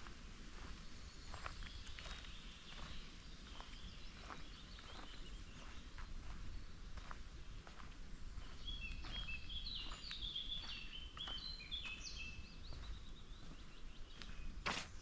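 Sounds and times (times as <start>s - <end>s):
footsteps on forest trail: 0.0s - 15.0s
songbird singing: 0.5s - 15.0s.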